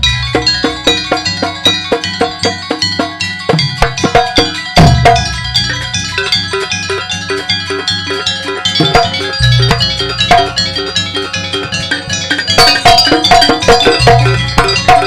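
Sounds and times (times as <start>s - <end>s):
gamelan ensemble playing: 0.0s - 15.0s.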